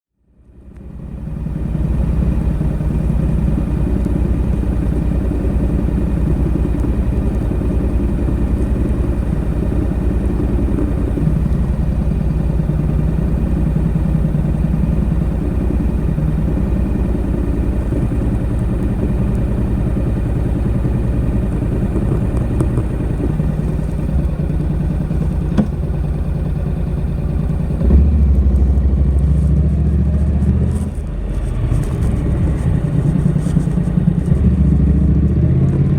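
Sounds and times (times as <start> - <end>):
motorcycle engine running: 0.2 - 35.9.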